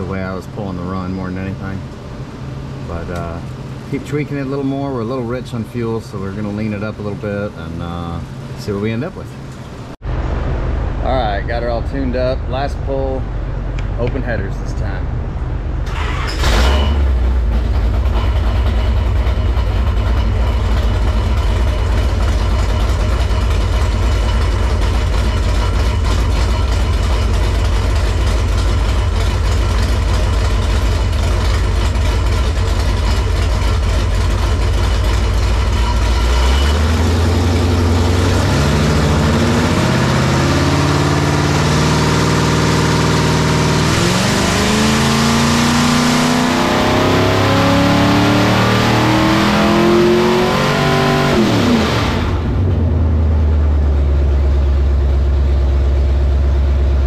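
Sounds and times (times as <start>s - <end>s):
engine running on dyno: 0.0s - 57.0s.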